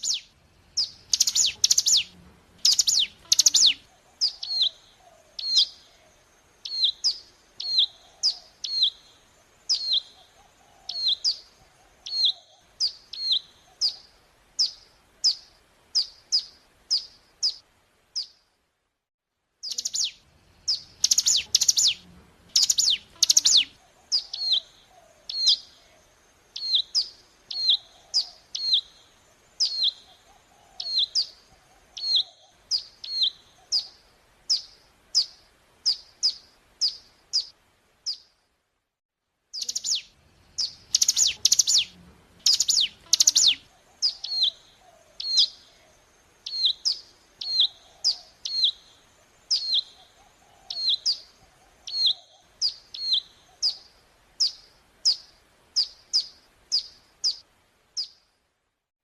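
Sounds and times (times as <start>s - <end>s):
bird song with sharp chirps: 0.0s - 17.6s, 18.2s - 18.4s, 19.6s - 38.4s, 39.5s - 58.3s.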